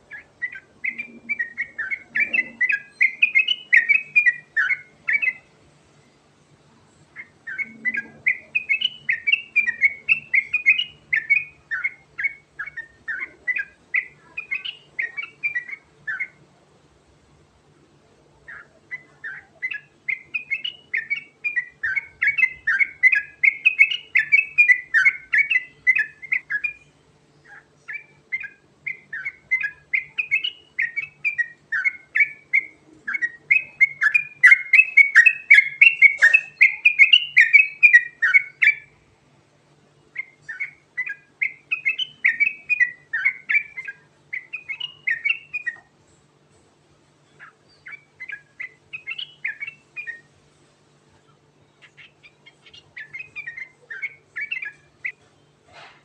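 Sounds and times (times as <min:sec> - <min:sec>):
bulbul singing rolling song: 0:00.0 - 0:55.8.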